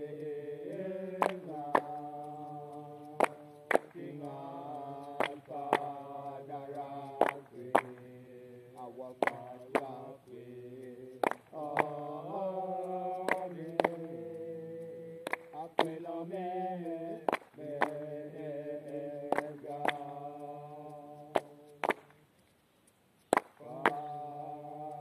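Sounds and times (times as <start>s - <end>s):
voices chanting slow melody: 0.0s - 22.4s, 23.5s - 25.0s
sharp claps keeping time: 0.0s - 25.0s.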